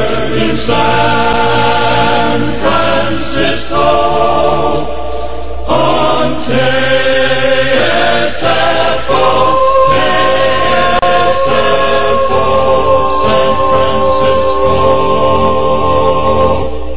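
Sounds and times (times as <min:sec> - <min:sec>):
choir holding sustained chords: 0:00.0 - 0:16.9.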